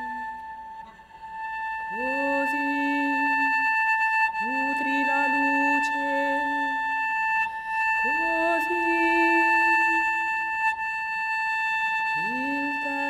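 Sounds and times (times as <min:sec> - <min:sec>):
bowed cello notes: 0:00.0 - 0:13.0.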